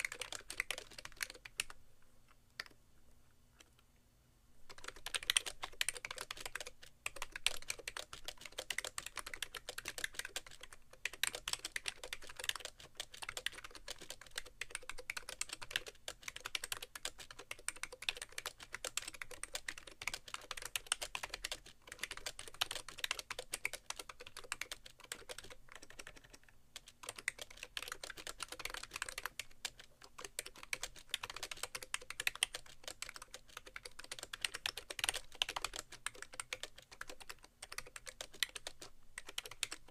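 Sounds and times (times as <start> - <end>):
fast typing key clacks: 0.0 - 1.7, 4.7 - 39.9.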